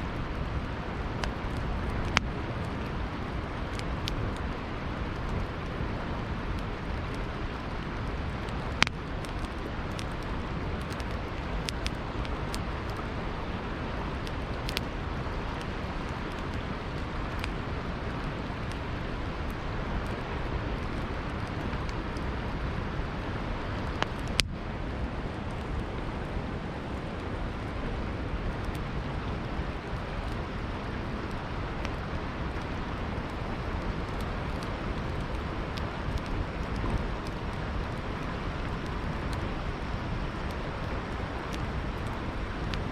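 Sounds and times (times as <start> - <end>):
river flowing: 0.0 - 42.9
campfire crackling and popping: 0.1 - 42.9.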